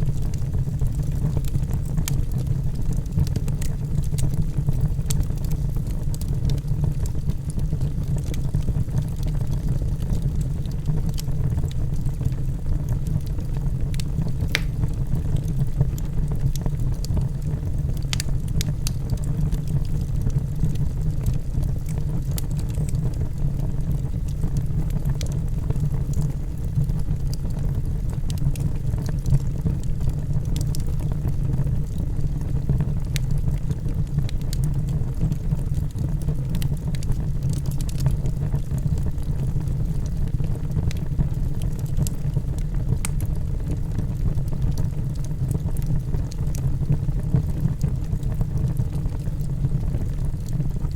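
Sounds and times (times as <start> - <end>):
fire crackling and popping: 0.0 - 50.9
fire rumbling: 0.0 - 50.9.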